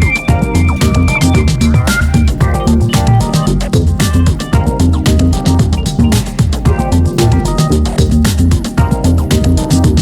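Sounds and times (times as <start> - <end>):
music with drums and bass: 0.0 - 10.0.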